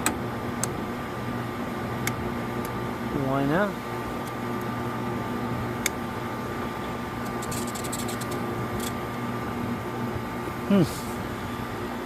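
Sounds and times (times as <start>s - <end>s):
freezer unit humming: 0.0s - 12.0s.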